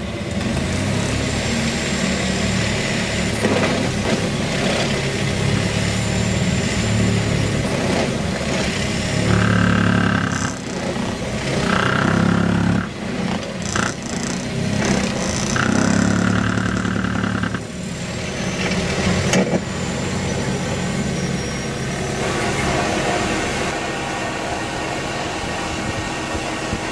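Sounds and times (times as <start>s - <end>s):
engine whine: 0.0s - 26.9s
excavator engine running: 0.0s - 26.9s.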